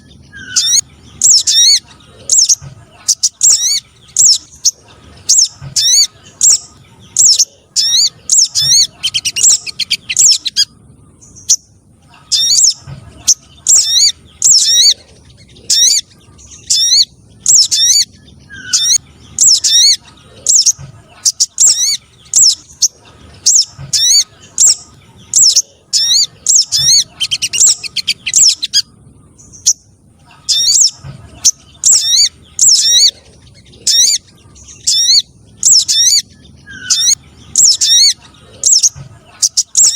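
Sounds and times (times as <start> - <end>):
bird chirping sharply: 0.0 - 39.9.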